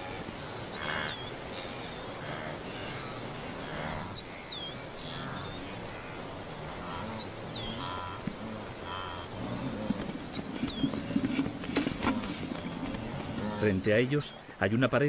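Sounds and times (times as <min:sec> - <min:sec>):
wildebeest grunting: 0:00.0 - 0:14.4.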